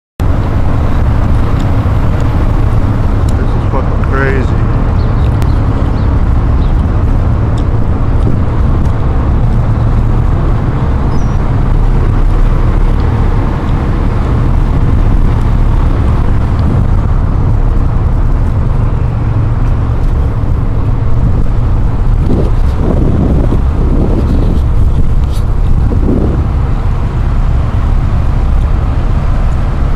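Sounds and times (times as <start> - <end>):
ferry engines rumbling: 0.2 - 29.9
wind buffeting microphone: 0.2 - 29.9.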